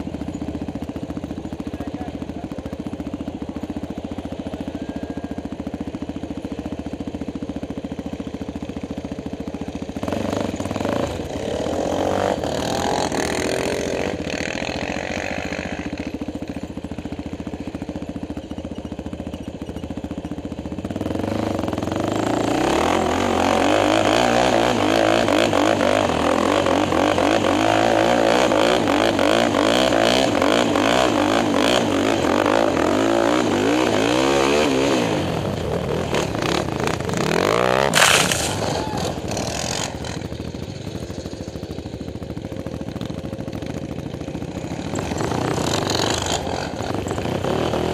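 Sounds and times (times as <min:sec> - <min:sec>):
quad bike engine revving: 0:00.0 - 0:47.9.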